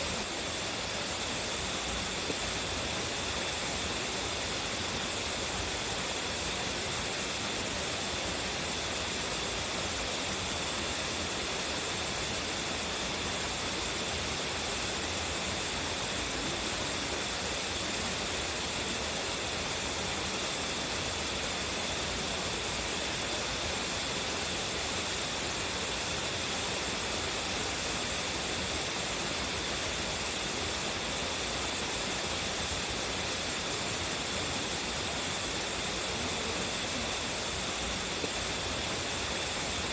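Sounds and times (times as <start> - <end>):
waterfall crashing into pool: 0.0 - 39.9.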